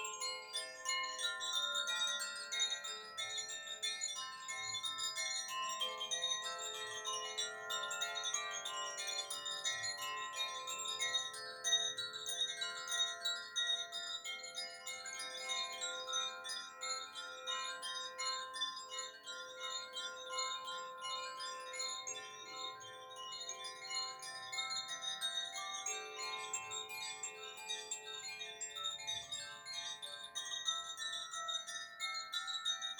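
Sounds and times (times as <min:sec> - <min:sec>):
wind chimes ringing: 0:00.0 - 0:32.9.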